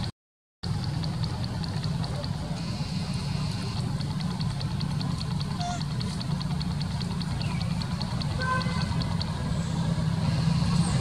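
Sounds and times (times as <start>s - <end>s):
engine idling: 0.0s - 11.0s
fast high ticking: 0.6s - 11.0s.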